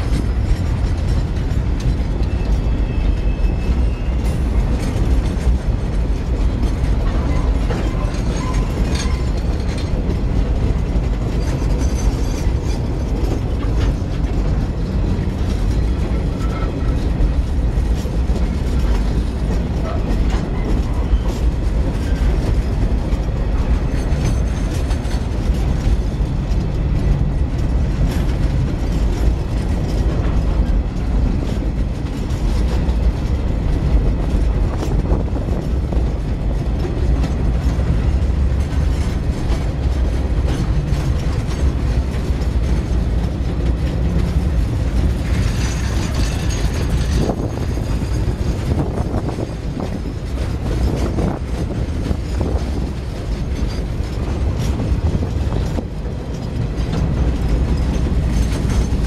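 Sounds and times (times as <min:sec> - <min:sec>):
train wheels rumbling on rails: 0:00.0 - 0:59.0
clicks and rattles of couplings: 0:04.2 - 0:59.0.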